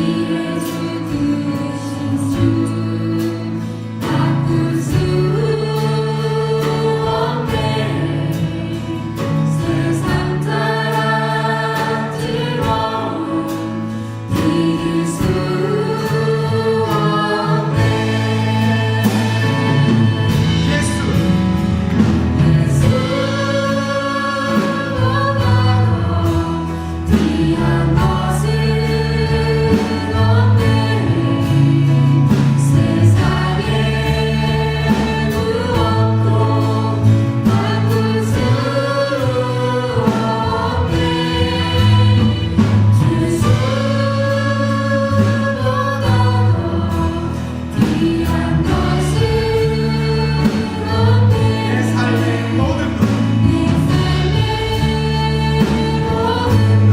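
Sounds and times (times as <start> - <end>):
worship song with band: 0.0 - 56.9.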